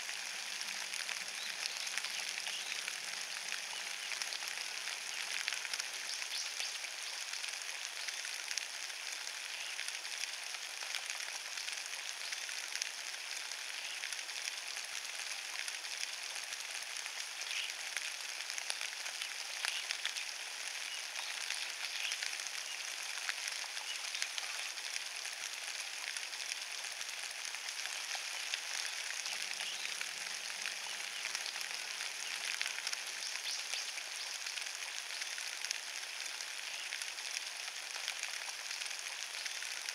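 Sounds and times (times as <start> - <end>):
rain on fallen leaves: 0.0 - 39.9.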